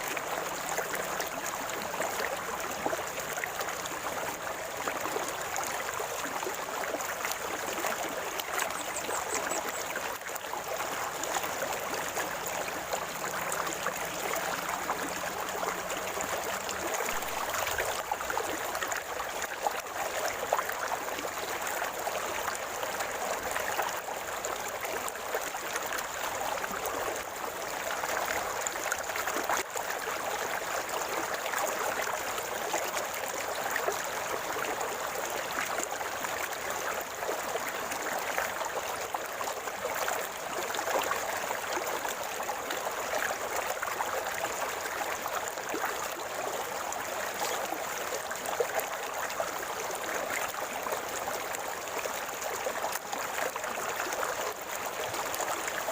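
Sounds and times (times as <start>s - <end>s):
river water gurgling: 0.0s - 55.9s.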